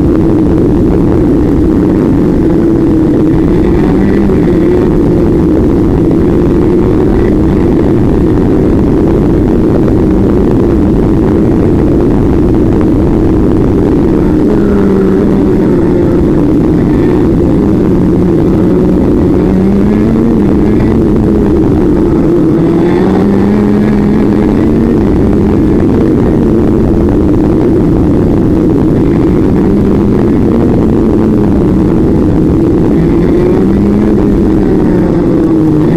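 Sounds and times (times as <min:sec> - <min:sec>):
motorcycle engine running: 0:00.0 - 0:35.9
wind rush on microphone: 0:00.0 - 0:35.9.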